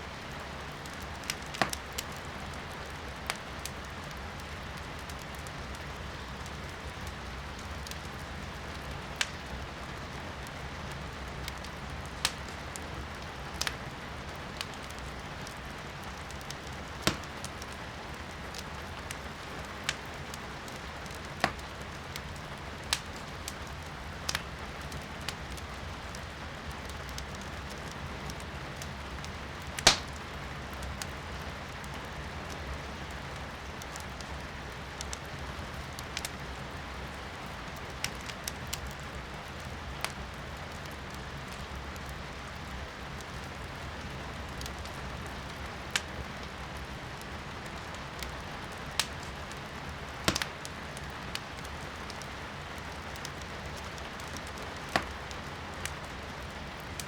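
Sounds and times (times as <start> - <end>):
firewood crackling and popping: 0.1 - 57.0.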